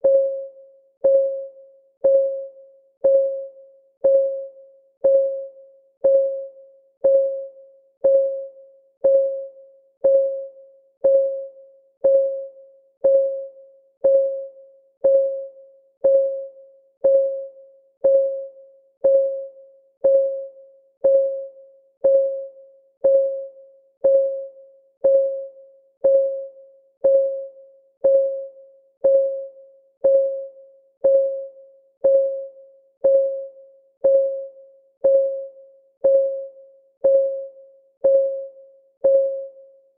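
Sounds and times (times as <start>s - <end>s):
countdown timer ticking: 2.0s - 2.4s, 3.0s - 39.6s.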